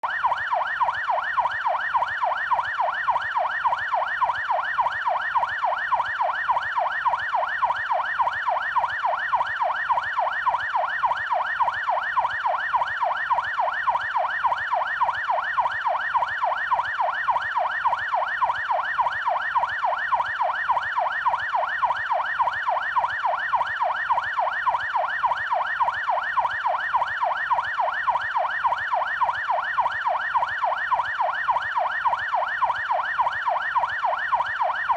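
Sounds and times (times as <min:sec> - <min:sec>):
police yelp siren: 0:00.0 - 0:34.9.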